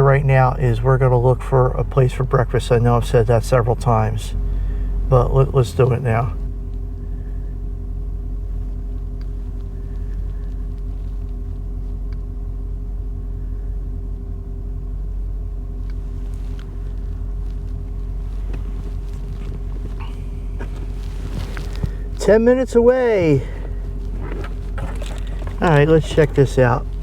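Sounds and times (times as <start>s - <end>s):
truck engine and road rumble: 0.0s - 27.0s.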